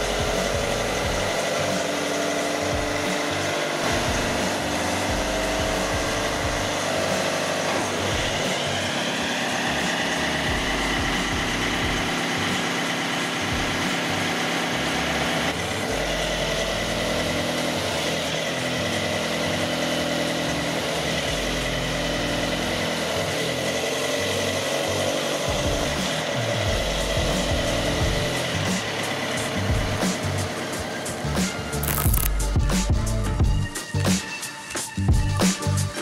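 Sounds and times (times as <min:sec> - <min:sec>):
forklift diesel engine running: 0:00.0 - 0:33.4.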